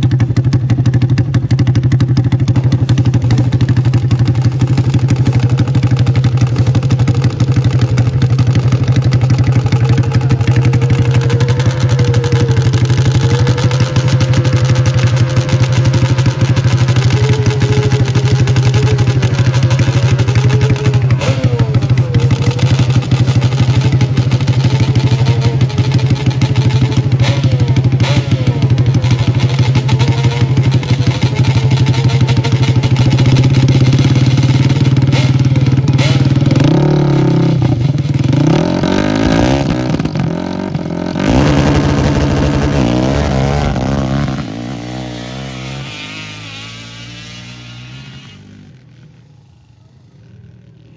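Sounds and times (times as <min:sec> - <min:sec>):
atv engine idling: 0:00.0 - 0:46.6.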